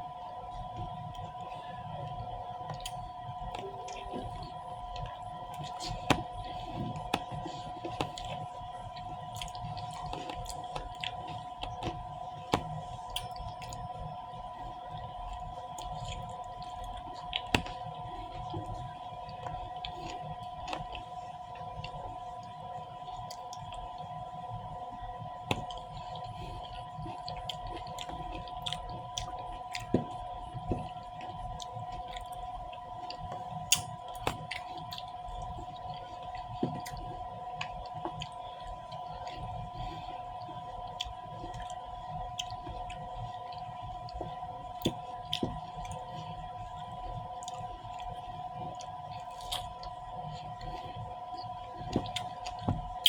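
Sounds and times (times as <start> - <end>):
close chewing of fruit: 2.7 - 14.0, 14.8 - 24.0, 25.4 - 53.0.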